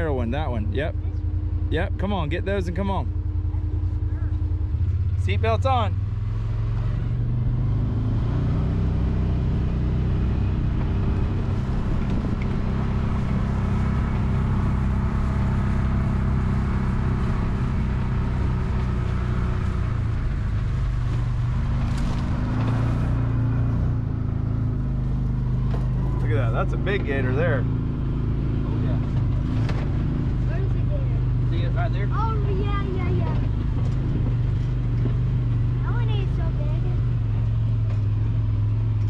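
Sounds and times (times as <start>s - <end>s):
vehicle engine running: 0.0s - 39.0s.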